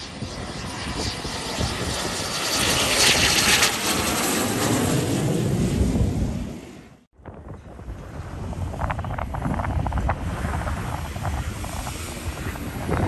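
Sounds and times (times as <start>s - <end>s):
jet aircraft passing: 0.0s - 13.0s.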